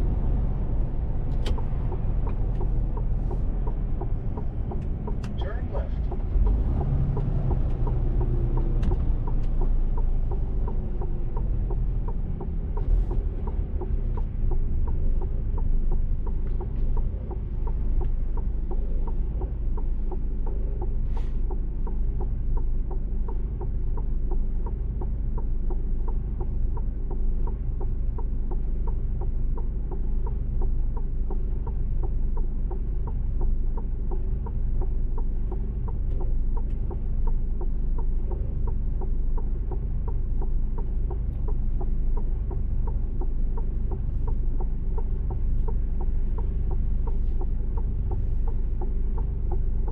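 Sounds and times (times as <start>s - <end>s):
fast regular ticking: 0.0s - 49.9s
truck diesel engine rumble: 0.0s - 49.9s.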